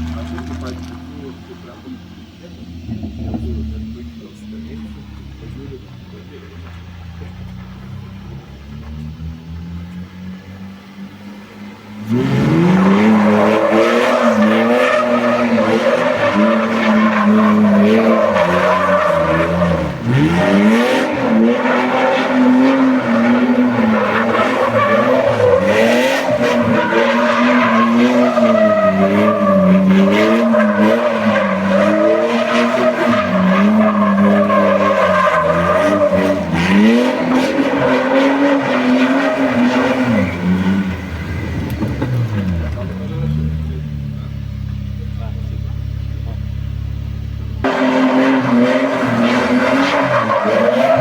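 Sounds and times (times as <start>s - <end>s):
vehicle engine revving hard: 0.0s - 51.0s.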